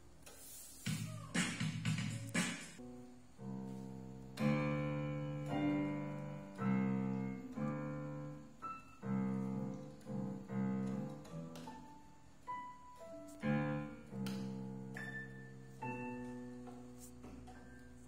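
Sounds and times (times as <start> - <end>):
electronic keyboard piano chords: 1.6 - 18.0.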